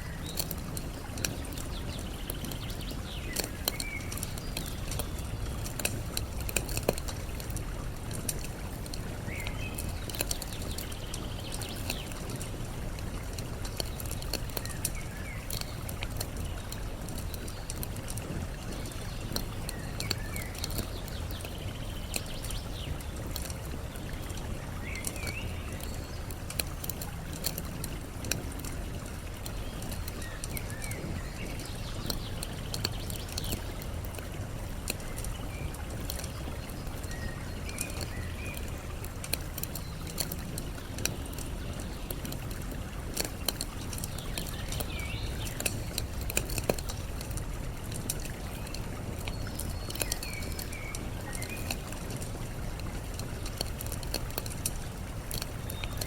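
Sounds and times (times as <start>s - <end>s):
campfire crackling and popping: 0.0s - 56.0s
flowing water: 0.0s - 56.0s
small birds chirping: 0.0s - 56.0s.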